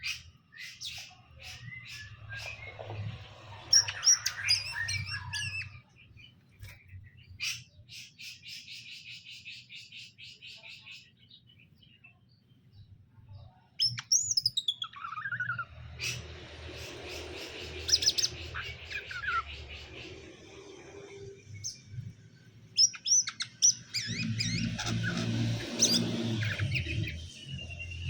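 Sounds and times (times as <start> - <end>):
bird warbling song: 0.0 - 28.0.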